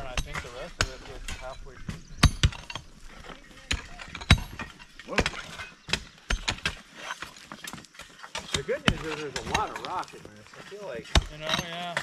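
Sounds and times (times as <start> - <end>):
picks and shovels striking rock: 0.0 - 12.0.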